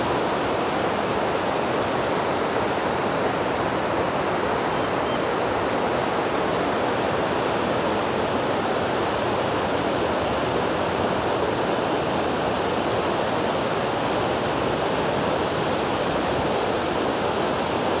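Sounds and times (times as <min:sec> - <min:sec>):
water gushing through sluice gates: 0:00.0 - 0:18.0.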